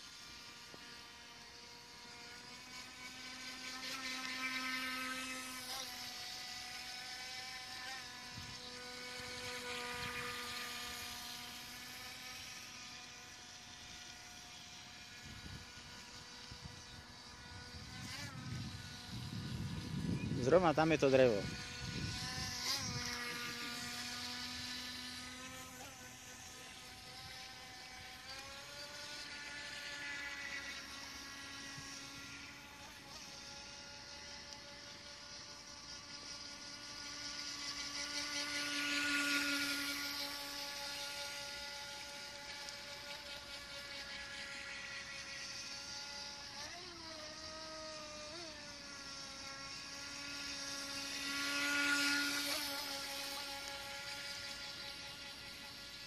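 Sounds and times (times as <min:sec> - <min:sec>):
toy boat electric motor whine: 0:00.0 - 0:56.0.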